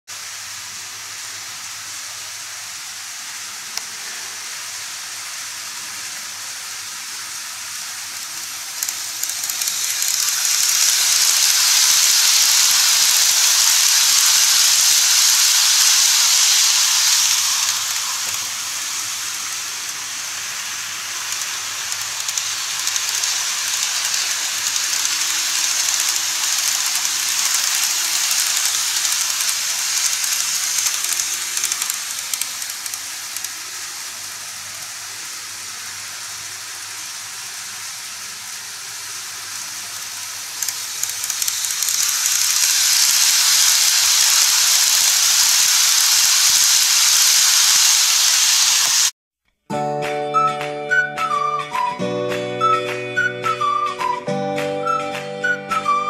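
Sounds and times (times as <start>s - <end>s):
model trains running on track: 0.1s - 49.1s, 50.4s - 56.0s.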